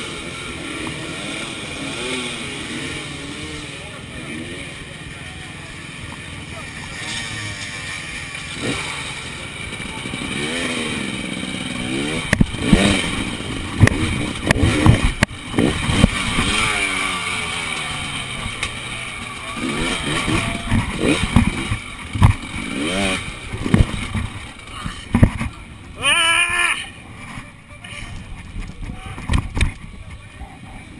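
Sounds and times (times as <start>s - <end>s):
motorcycle engine revving: 0.0s - 30.8s.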